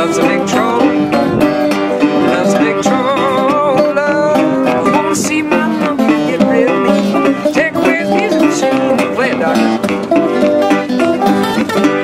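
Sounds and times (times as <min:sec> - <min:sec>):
resonator guitar fingerpicked ragtime: 0:00.0 - 0:12.0.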